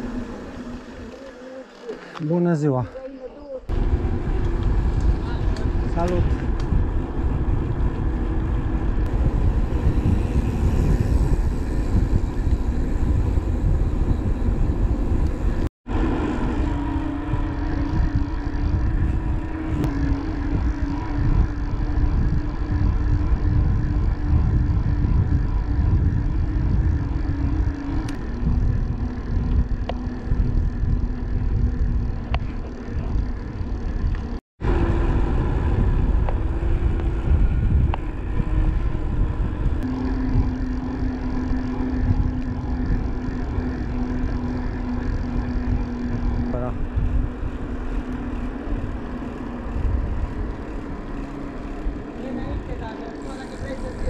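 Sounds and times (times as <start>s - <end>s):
road rumble: 2.9s - 54.0s
vehicle engine: 3.7s - 54.0s.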